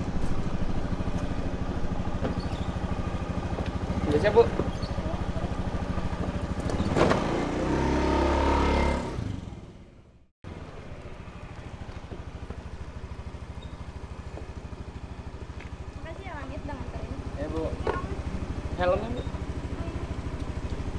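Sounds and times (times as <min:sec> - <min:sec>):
scooter engine idling: 0:00.0 - 0:06.8, 0:09.1 - 0:20.9
scooter engine revving: 0:00.0 - 0:10.0, 0:11.5 - 0:20.9.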